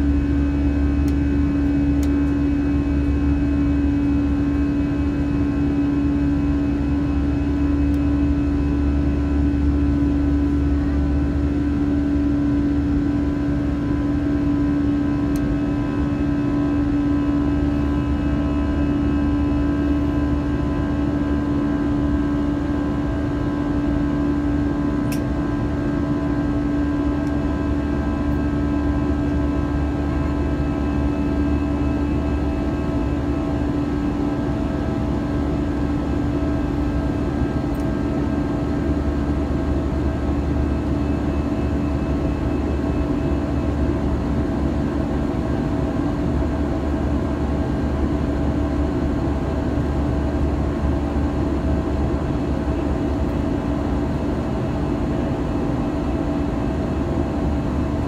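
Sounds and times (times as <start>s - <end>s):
airplane engines and airflow rumble: 0.0s - 58.0s
steady hum: 0.0s - 58.0s.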